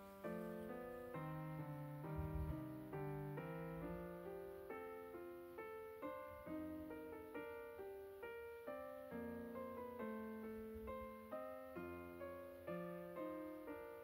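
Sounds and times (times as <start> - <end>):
background piano music: 0.0 - 14.0.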